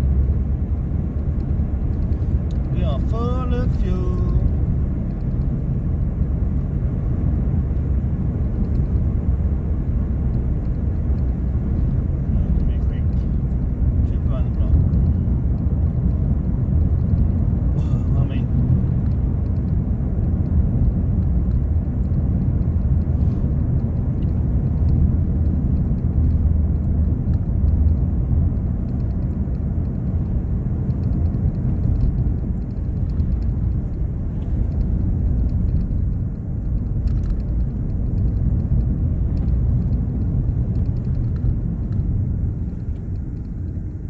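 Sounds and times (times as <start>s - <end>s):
road and engine rumble in car: 0.0s - 44.0s.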